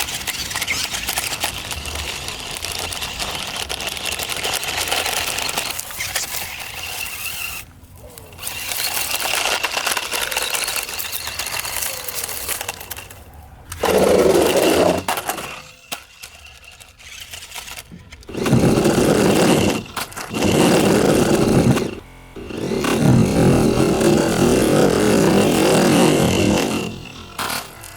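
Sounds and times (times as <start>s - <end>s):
toy car electric motors whining: 0.0s - 27.9s.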